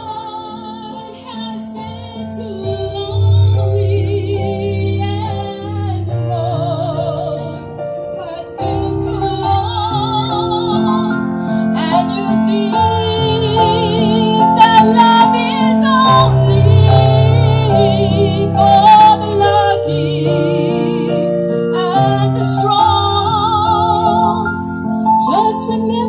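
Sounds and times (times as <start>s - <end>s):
woman singing with vibrato: 0.0s - 24.6s, 25.2s - 26.0s
electric keyboard: 0.0s - 26.0s.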